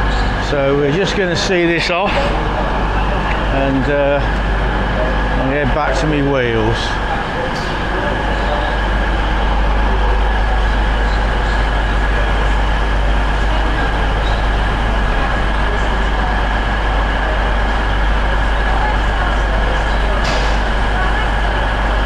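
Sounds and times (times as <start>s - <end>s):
diesel train engine idling: 0.0s - 22.0s
high whine: 0.0s - 22.0s.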